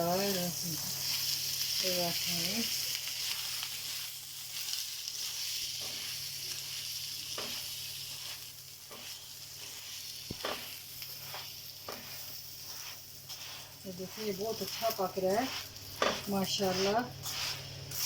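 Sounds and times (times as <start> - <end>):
flatbread sizzling on a griddle: 0.0 - 18.0
small crackles: 0.8 - 18.0.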